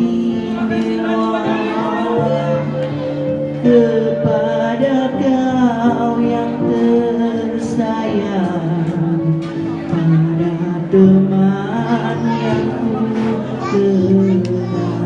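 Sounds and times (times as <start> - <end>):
keyboard chords and bass backing: 0.0 - 15.0
man singing into microphone: 0.0 - 15.0.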